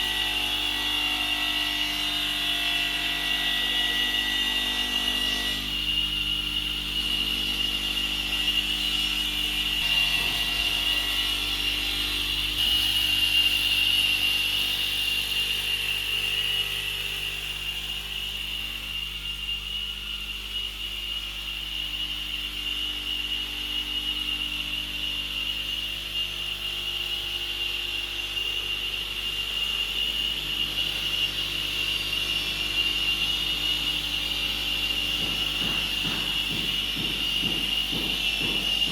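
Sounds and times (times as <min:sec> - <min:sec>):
machine hum: 0:00.0 - 0:38.9
router spindle whine: 0:00.0 - 0:38.9.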